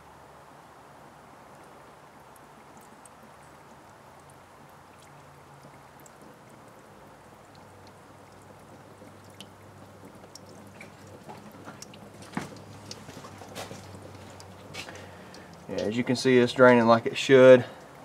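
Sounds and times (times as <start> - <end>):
water trickling and spattering: 1.1 - 18.0
water drips: 1.4 - 18.0.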